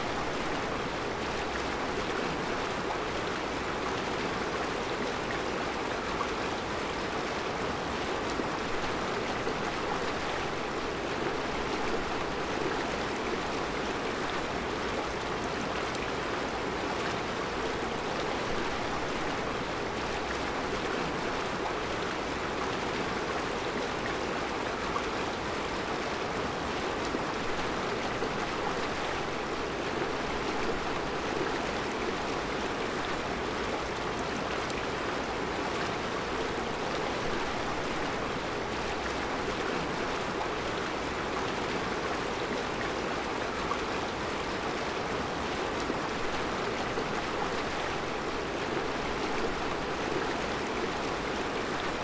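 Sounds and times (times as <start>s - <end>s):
river flowing over rocks: 0.0s - 52.0s.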